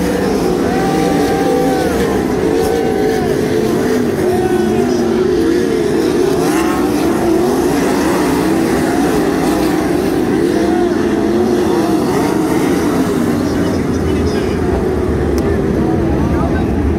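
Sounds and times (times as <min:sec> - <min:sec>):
racing car engines: 0:00.0 - 0:16.9.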